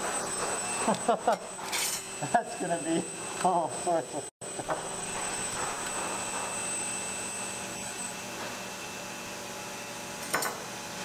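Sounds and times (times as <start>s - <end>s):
thin high whine: 0.0s - 10.6s
three d printer whirring hum: 0.0s - 11.0s.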